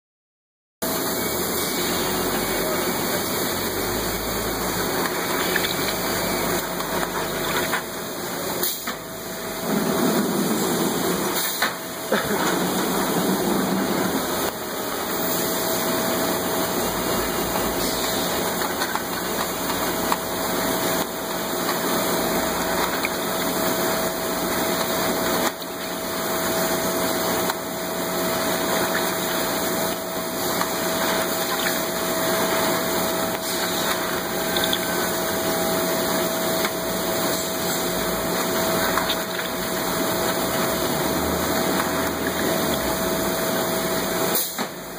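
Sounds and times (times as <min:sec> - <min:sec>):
machinery mechanical drone: 0:00.8 - 0:44.9.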